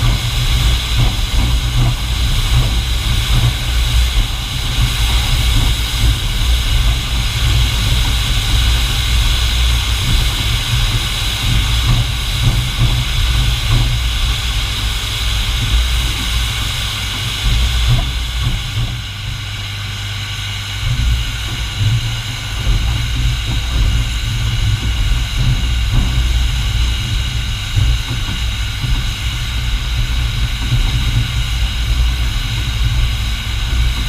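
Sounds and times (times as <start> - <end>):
steam hissing: 0.0 - 34.0
steam train rumbling: 0.0 - 34.0.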